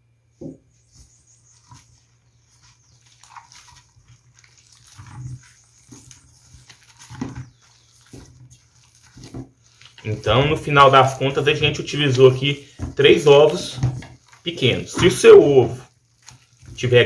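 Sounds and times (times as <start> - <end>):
wet squelching of dough: 0.6 - 17.0.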